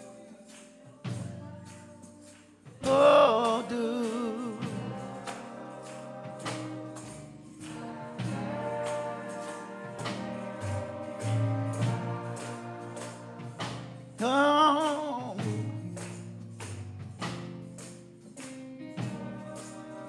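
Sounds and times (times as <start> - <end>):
gospel keyboard music with beat: 0.0 - 20.0.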